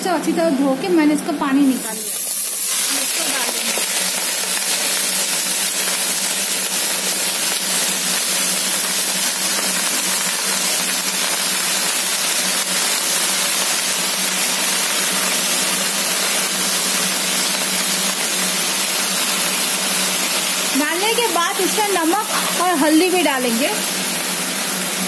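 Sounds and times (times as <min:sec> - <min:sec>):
spinach sizzling in hot oil: 0:01.5 - 0:25.0.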